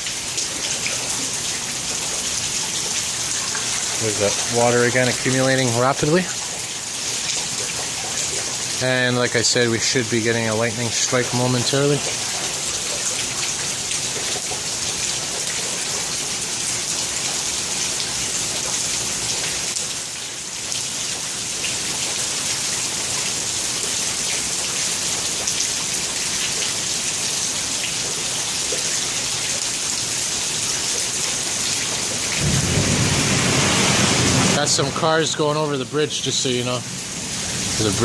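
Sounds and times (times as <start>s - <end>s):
heavy rain on hard surfaces: 0.0s - 38.0s.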